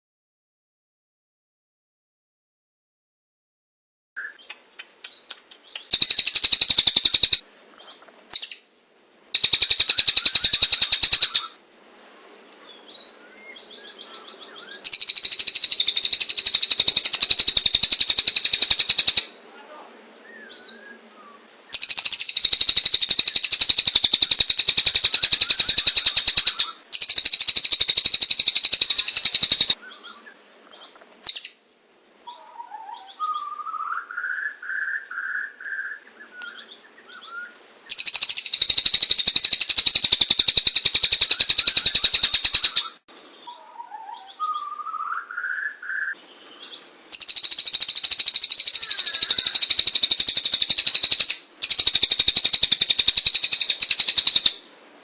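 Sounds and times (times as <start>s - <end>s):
birds singing fast high trills: 4.2s - 8.7s, 9.4s - 11.6s, 12.7s - 19.4s, 20.2s - 31.7s, 32.3s - 54.7s
bird chirps: 4.2s - 8.8s, 9.4s - 11.6s, 12.6s - 19.4s, 20.2s - 54.7s.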